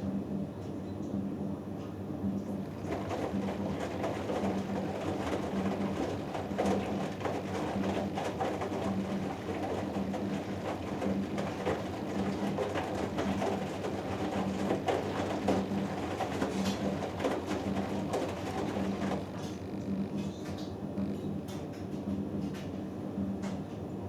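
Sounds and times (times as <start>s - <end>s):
washing machine motor humming: 2.2s - 22.4s
wet laundry tumbling in drum: 2.5s - 22.8s.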